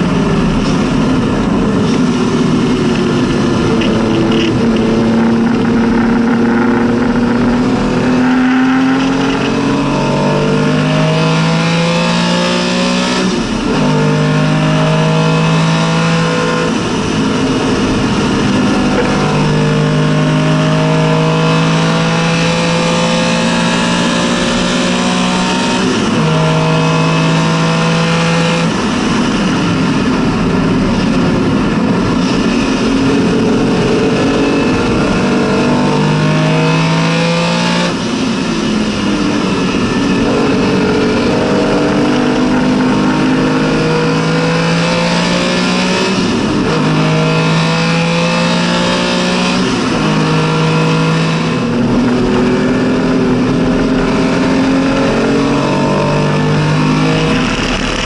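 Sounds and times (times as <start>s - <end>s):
racing engine revving through gears: 0.2s - 58.0s.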